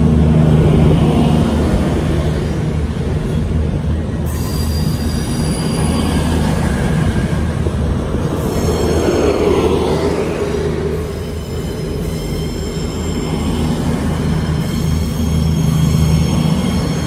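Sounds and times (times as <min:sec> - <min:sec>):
train diesel engines running: 0:00.0 - 0:17.0.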